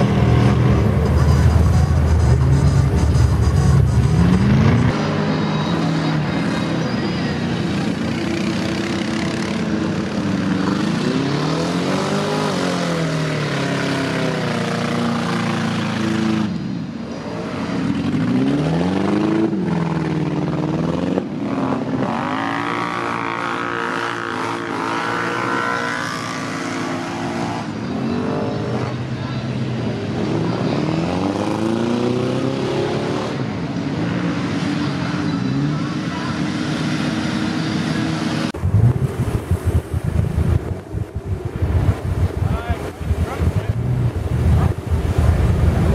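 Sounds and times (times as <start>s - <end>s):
atv engines revving: 0.0s - 45.9s.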